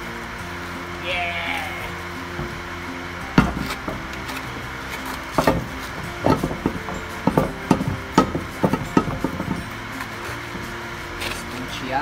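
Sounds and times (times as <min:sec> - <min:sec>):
steel wheel clunking against hub: 0:01.9 - 0:12.0.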